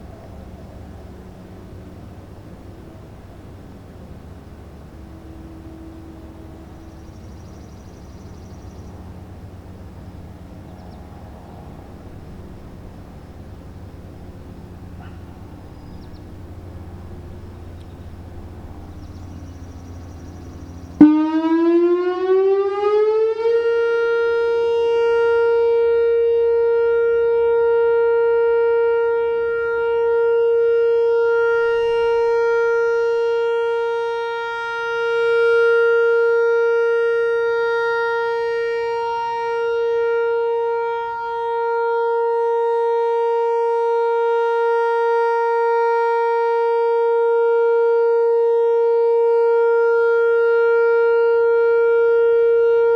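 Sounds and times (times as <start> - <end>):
warning siren rising tone: 4.0 - 52.9.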